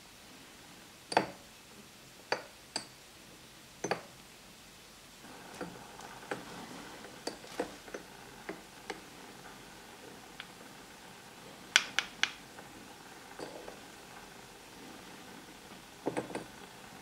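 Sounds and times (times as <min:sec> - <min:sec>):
faint hiss: 0:00.0 - 0:17.0.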